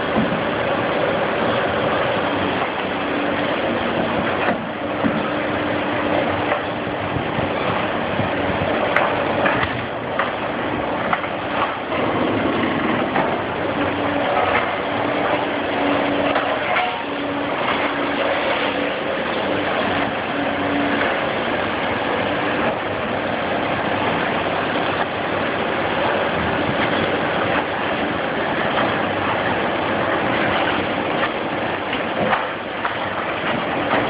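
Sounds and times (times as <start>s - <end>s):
excavator diesel engine and hydraulics: 0.0s - 34.0s.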